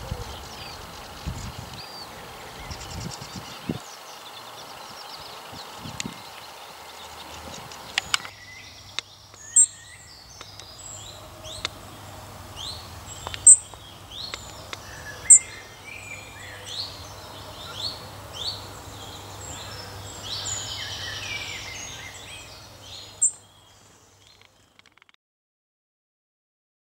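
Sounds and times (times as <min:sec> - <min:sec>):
robin singing: 0:00.0 - 0:25.1.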